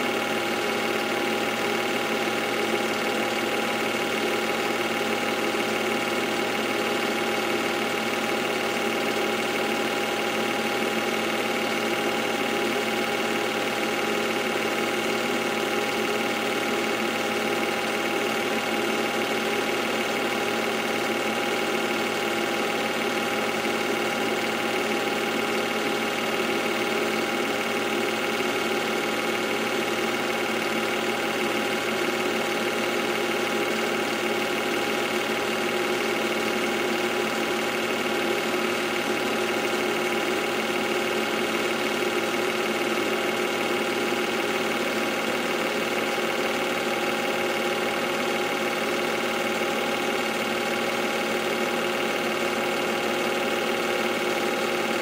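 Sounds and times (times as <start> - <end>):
film projector humming: 0.0 - 55.0.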